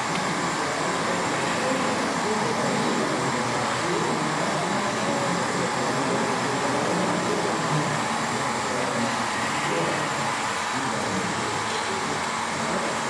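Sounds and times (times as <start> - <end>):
exhibition hall din: 0.0 - 13.0
faint indistinct voices: 0.0 - 13.0.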